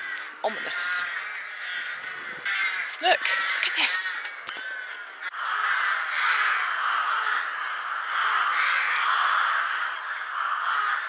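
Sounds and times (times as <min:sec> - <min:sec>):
crows cawing: 0:00.0 - 0:11.0.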